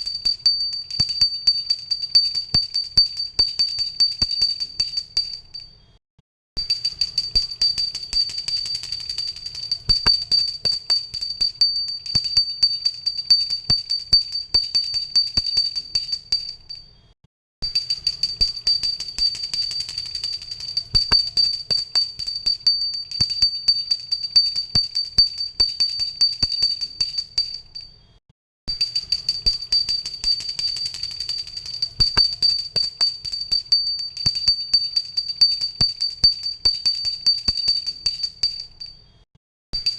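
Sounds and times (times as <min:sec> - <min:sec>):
handheld bell ringing rapidly: 0:00.0 - 0:05.7, 0:06.6 - 0:16.9, 0:17.6 - 0:27.9, 0:28.7 - 0:39.0.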